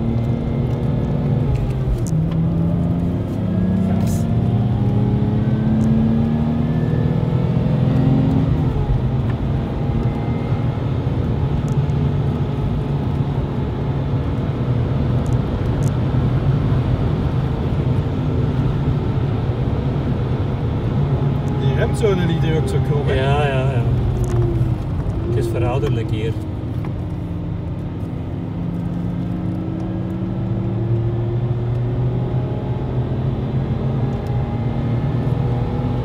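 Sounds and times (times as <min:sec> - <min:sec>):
tyre and road noise: 0:00.0 - 0:31.2
car engine accelerating: 0:00.0 - 0:36.0.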